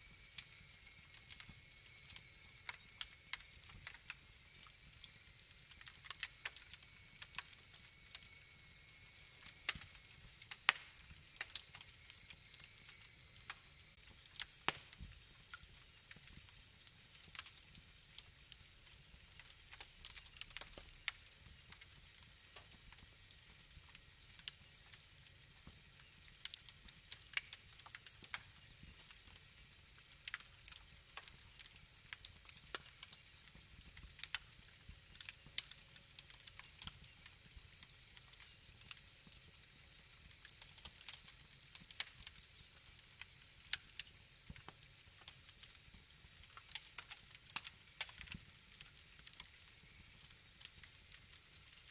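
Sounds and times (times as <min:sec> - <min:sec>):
faint wood fire crackling: 0:00.0 - 0:51.9.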